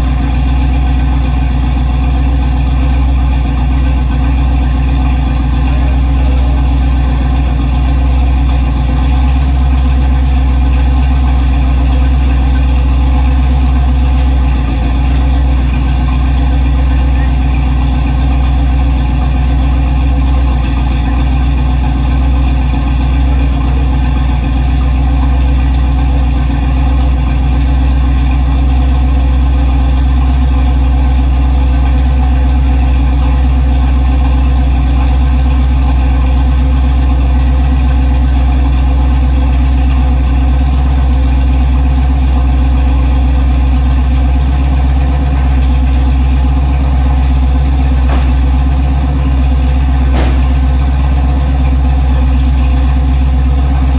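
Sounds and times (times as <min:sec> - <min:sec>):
pickup truck engine idling: 0:00.0 - 0:53.9.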